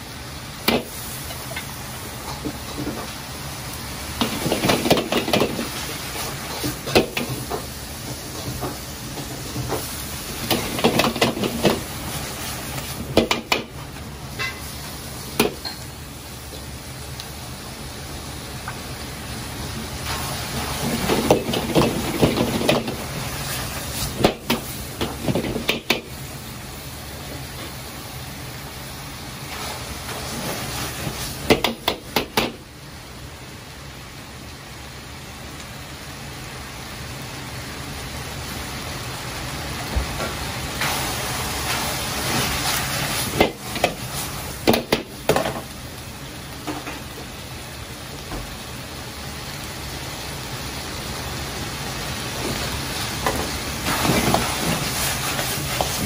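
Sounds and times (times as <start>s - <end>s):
gas burner rushing: 0.0s - 32.8s, 37.2s - 56.0s
stir-fry sizzling in a wok: 0.0s - 56.0s.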